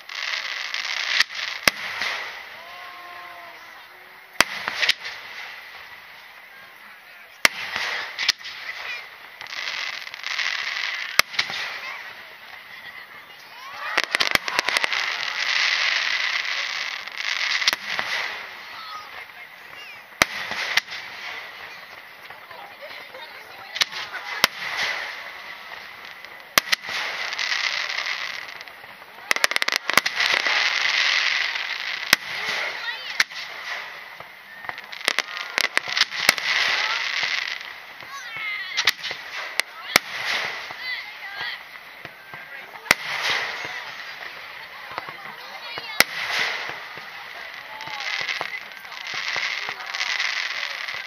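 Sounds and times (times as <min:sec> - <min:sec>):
firework shells bursting: 0:00.0 - 0:06.1, 0:07.4 - 0:12.7, 0:13.7 - 0:51.0
firework hiss: 0:00.0 - 0:51.0.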